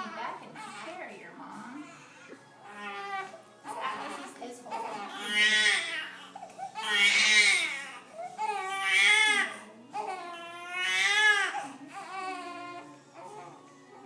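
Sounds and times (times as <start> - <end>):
newborn baby crying: 0.0 - 13.7.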